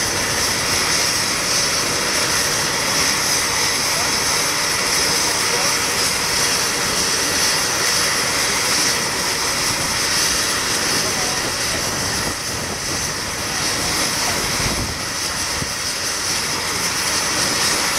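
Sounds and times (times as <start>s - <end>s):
helicopter engine whine: 0.0s - 17.9s
helicopter rotor noise: 0.0s - 17.9s.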